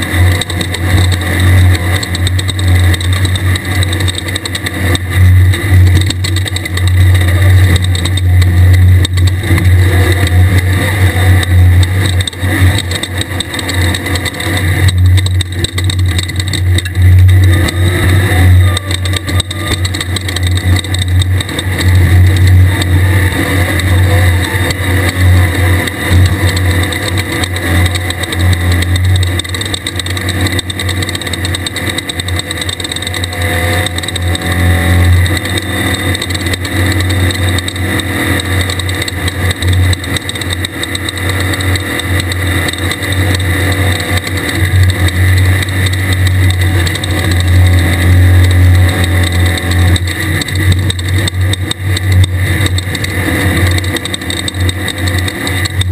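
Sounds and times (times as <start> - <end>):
buggy engine running under load: 0.0 - 55.9
road and wind noise: 0.0 - 55.9.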